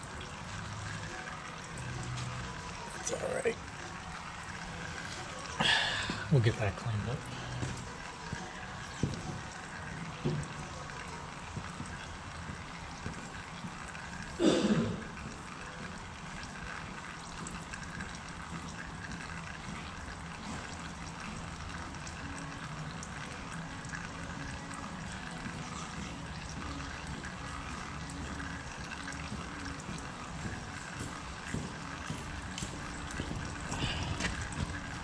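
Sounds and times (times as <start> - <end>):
oil trickling into container: 0.0 - 35.0.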